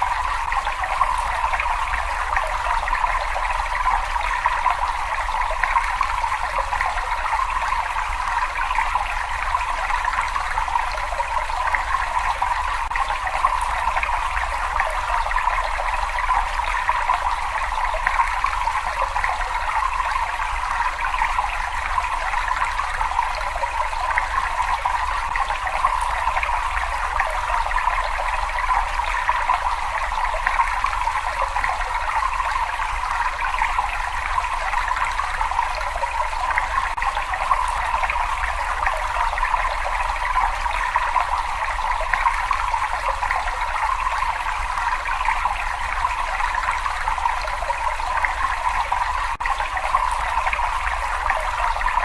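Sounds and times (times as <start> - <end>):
water running and trickling: 0.0 - 52.0.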